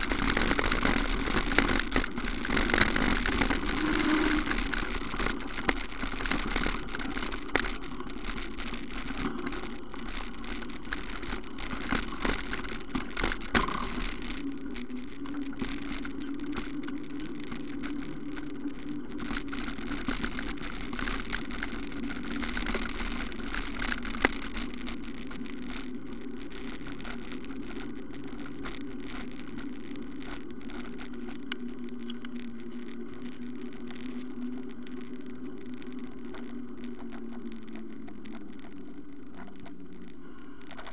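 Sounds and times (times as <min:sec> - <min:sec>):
bike rattling over rough ground: 0:00.0 - 0:40.9.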